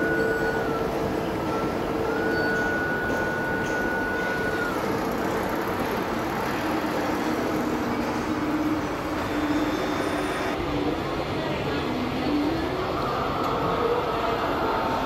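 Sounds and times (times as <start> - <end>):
hall background noise: 0.0 - 15.0
model train running on track: 0.0 - 15.0.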